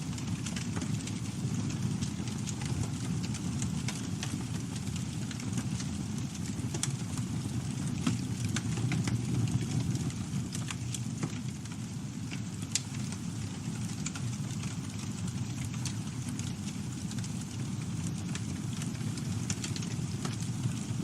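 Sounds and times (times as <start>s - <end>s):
campfire rumble: 0.0s - 21.0s
wood crackling and popping: 0.0s - 21.0s.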